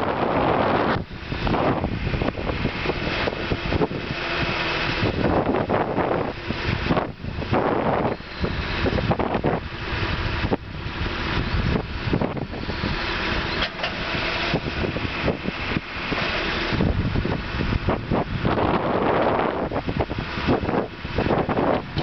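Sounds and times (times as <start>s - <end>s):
heavy equipment engine running: 0.0s - 22.0s
wind buffeting microphone: 0.0s - 22.0s.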